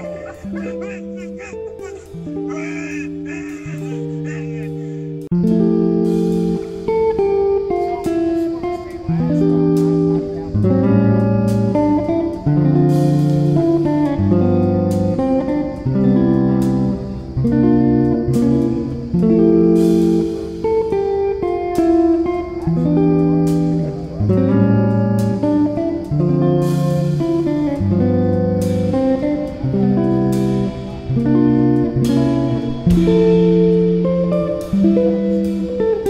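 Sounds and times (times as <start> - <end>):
plucked guitar melody: 0.0 - 36.0.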